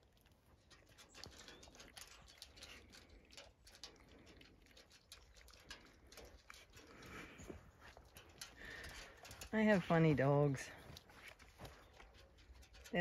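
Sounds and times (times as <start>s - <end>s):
dogs crunching dry feed: 0.0s - 13.0s.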